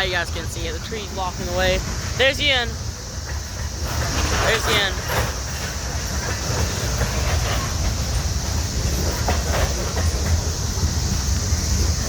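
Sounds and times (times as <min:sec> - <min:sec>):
clacks over rail joints: 0:00.0 - 0:12.0
train wheels rumbling on rail: 0:00.0 - 0:12.0.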